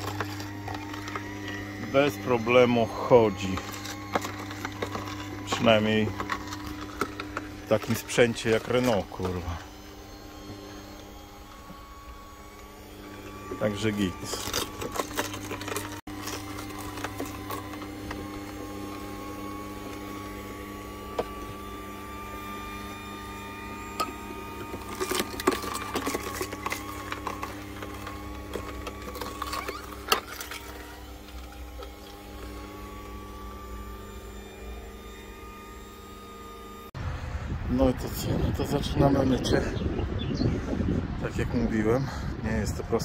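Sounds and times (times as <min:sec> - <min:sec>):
juicer motor humming: 0:00.0 - 0:43.0.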